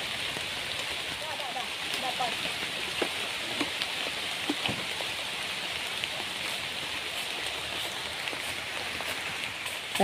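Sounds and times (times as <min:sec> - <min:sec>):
rain on foliage: 0:00.0 - 0:10.0.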